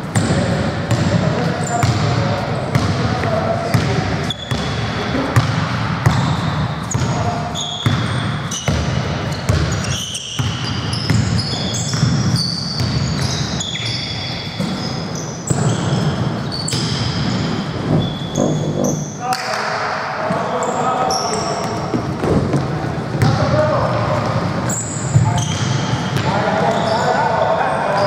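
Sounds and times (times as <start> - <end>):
sneakers squeaking: 0.0 - 19.2, 20.3 - 23.4, 24.0 - 28.0.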